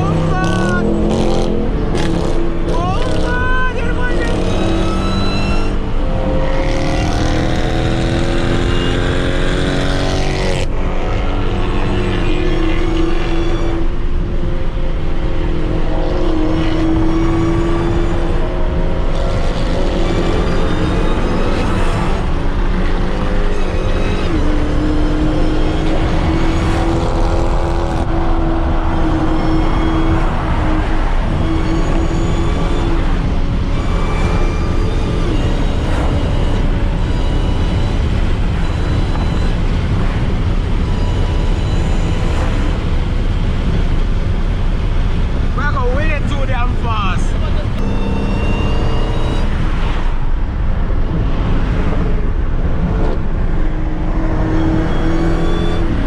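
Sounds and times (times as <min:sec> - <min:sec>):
car engine cruising: 0:00.0 - 0:56.0
low road rumble: 0:00.0 - 0:56.0.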